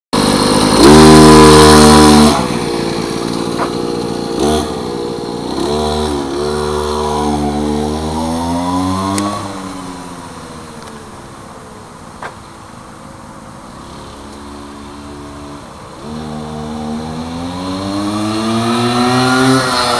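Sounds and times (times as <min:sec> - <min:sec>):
small scooter engine revving: 0:00.2 - 0:11.8, 0:13.7 - 0:19.9.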